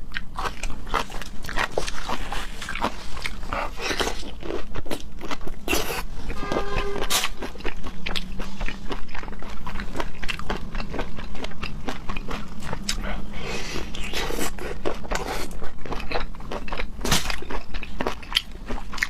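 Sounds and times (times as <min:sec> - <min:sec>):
person biting and chewing food: 0:00.0 - 0:19.0.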